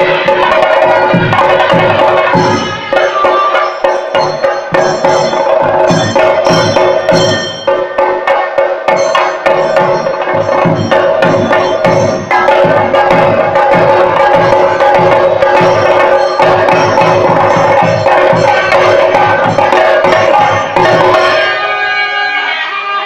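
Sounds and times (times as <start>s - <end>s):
drums beaten with sticks: 0.0s - 22.0s
steady ringing tone: 1.1s - 21.3s.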